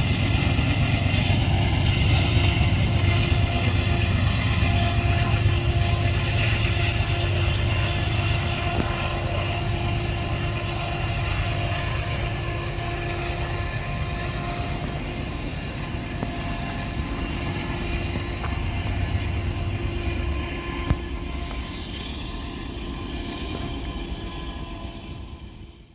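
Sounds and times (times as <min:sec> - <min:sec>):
train clank: 0:00.0 - 0:23.8
faint steady tones: 0:00.0 - 0:25.9
train rumbling along track: 0:00.0 - 0:25.9.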